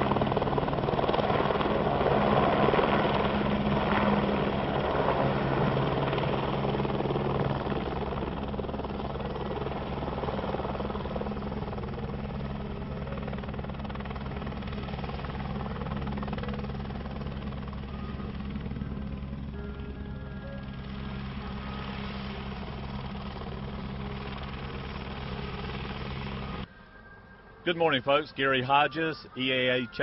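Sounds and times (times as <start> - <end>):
aircraft engine and propeller: 0.0 - 26.7.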